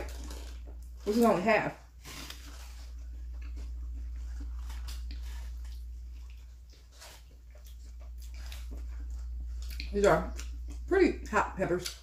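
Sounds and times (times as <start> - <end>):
person chewing sandwich: 0.0 - 1.0, 1.9 - 10.9
steady low hum: 0.0 - 12.0.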